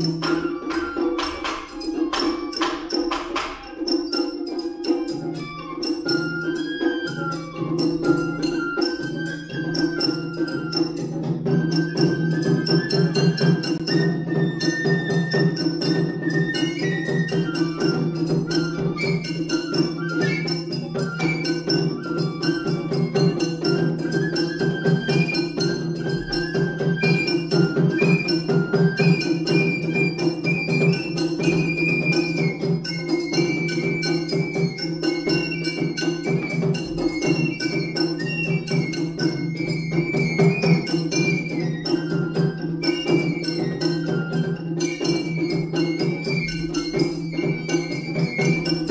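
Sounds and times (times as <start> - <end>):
large drum: 0.0 - 5.3, 6.2 - 48.9
bamboo flute melody: 0.0 - 48.9
fast drum strokes: 0.0 - 48.9.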